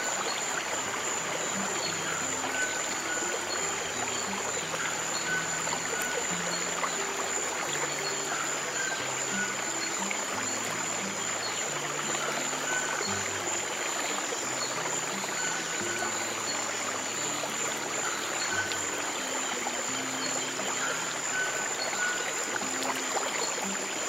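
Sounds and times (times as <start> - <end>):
stream running water: 0.0 - 24.0.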